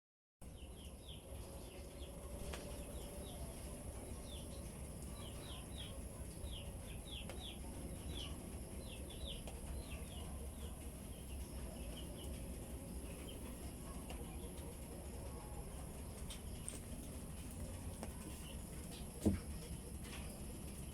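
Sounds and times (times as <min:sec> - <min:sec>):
small birds chirping: 0:00.4 - 0:20.9.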